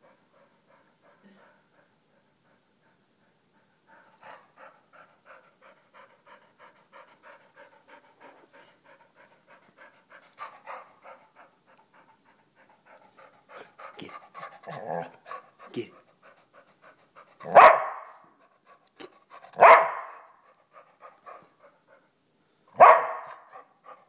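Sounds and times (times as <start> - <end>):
dog panting rapidly: 0.0 - 22.2, 22.8 - 24.0.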